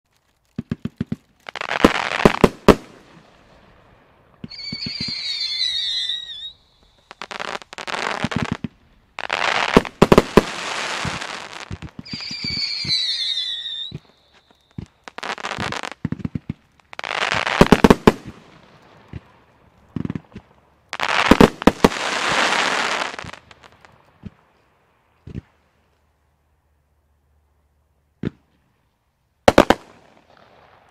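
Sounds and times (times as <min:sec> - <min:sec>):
firework cracks and pops: 0:00.1 - 0:24.5, 0:29.5 - 0:30.9
hissing firework shots: 0:00.5 - 0:24.4, 0:29.5 - 0:30.9
whistling fireworks: 0:00.6 - 0:24.4, 0:29.4 - 0:30.9.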